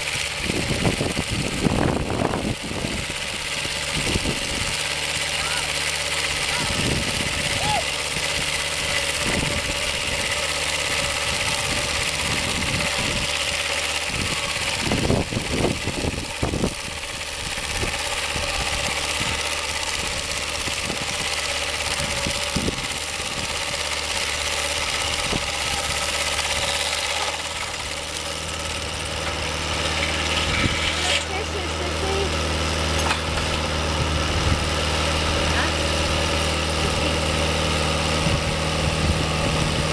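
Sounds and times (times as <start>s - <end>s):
saw cutting log: 0.0s - 39.9s
sawmill engine running: 0.0s - 39.9s.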